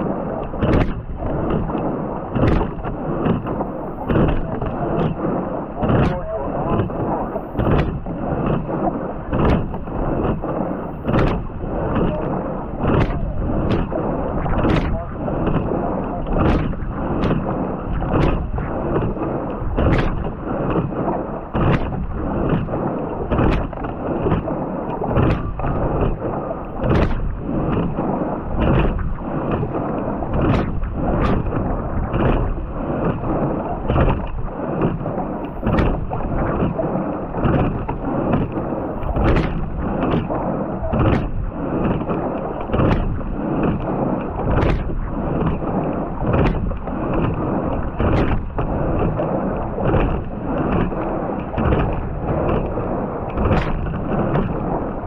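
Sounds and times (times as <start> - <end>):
water rushing past hull: 0.0 - 55.0.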